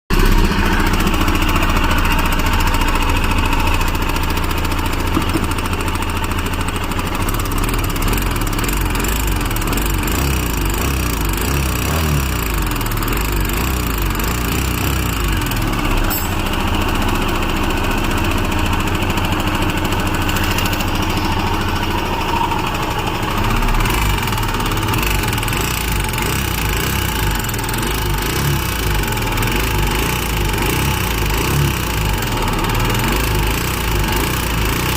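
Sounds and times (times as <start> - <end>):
mechanical engine noise: 0.1 - 34.9
motorcycle engine running: 0.1 - 34.9.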